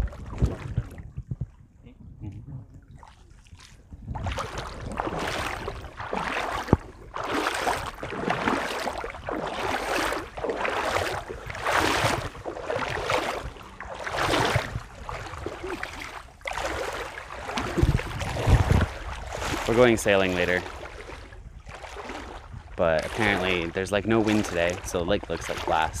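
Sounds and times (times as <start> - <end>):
feet wading through water: 0.0 - 1.8, 2.4 - 26.0.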